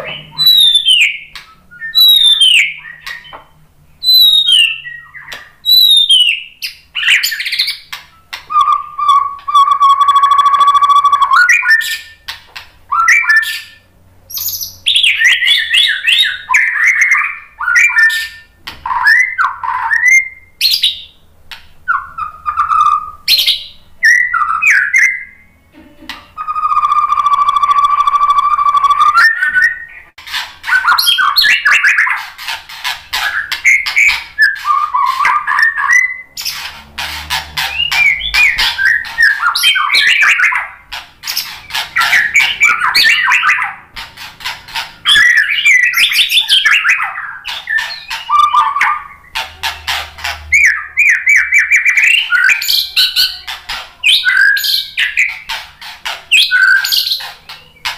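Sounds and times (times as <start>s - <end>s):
bird singing varied song: 0.0s - 25.7s, 26.3s - 57.9s.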